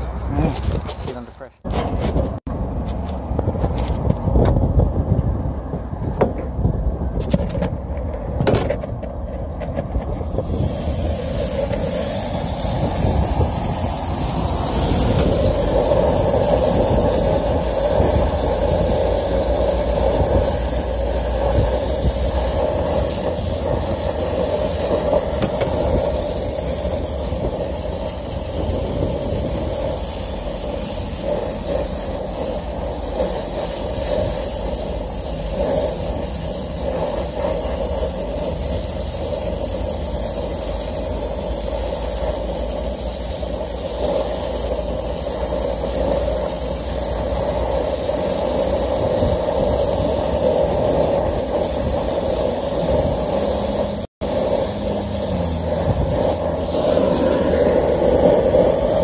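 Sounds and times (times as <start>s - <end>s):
torch flame rushing hiss: 1.6s - 59.0s.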